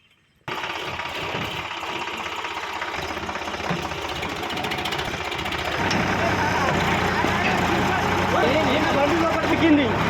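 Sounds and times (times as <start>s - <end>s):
tractor diesel engine clattering: 0.5s - 10.0s.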